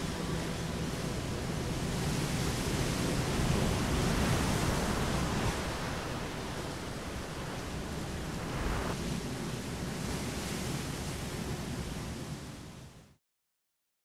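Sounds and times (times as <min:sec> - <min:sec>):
sea rushing along a ship: 0:00.0 - 0:13.2
wind: 0:00.0 - 0:13.2.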